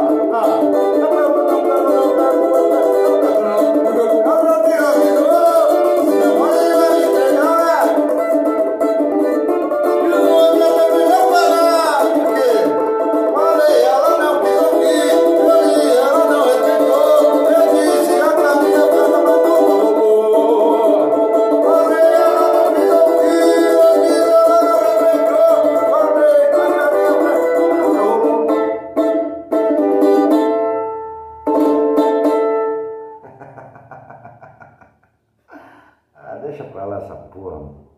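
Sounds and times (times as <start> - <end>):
samba banjo playing: 0.0 - 34.7.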